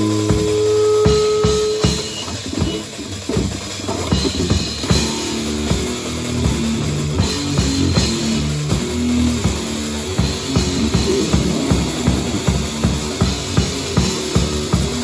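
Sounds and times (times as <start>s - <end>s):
distorted guitar and bass riff: 0.0s - 15.0s
drum kit: 0.0s - 15.0s.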